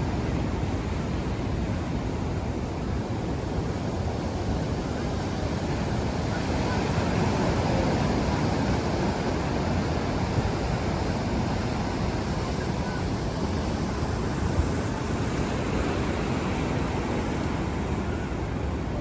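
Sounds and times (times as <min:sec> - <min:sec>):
ocean surf on sandy beach: 0:00.0 - 0:19.0.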